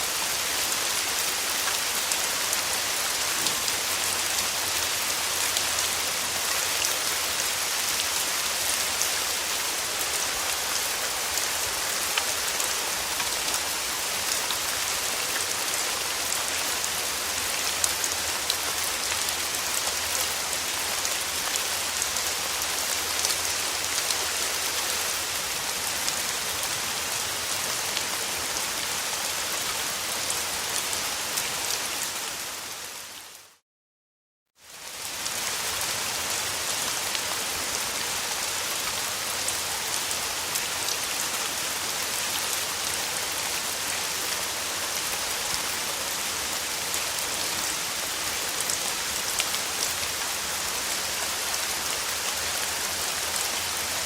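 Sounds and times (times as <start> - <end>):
steady rain hiss: 0.0 - 33.6, 34.6 - 54.0.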